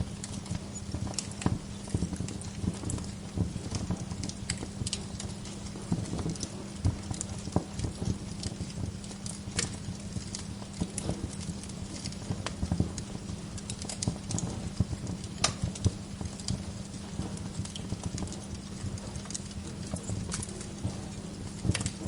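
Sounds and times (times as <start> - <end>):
fire crackles and pops: 0.0 - 22.0
wood fire rumbling: 0.0 - 22.0.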